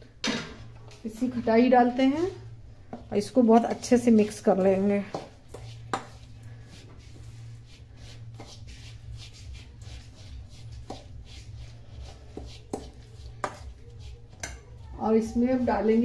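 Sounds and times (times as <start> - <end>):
spoon stirring dry spice powder: 2.9 - 16.0.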